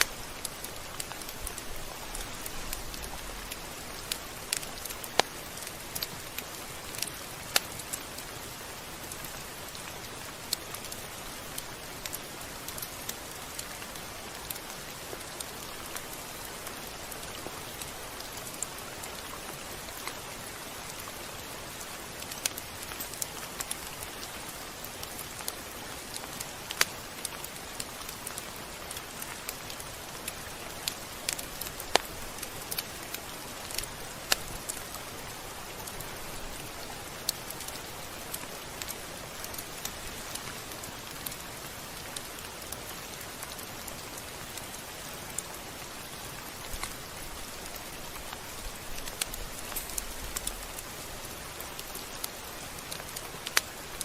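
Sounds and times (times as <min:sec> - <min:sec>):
sharp raindrop ticks: 0:00.0 - 0:54.0
steady rain falling: 0:00.0 - 0:54.0.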